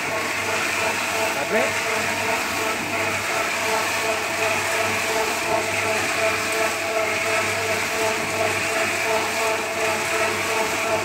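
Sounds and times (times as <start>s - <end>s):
drum mixer motor humming: 0.0s - 11.0s
seeds rattling in turning drum: 0.0s - 11.0s.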